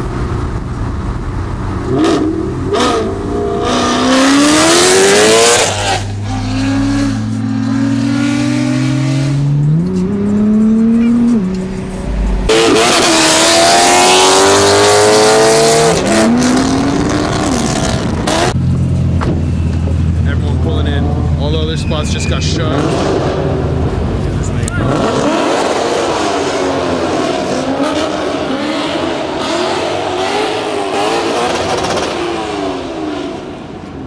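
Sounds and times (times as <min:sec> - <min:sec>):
car engine accelerating hard: 0:00.0 - 0:21.7, 0:22.4 - 0:33.7.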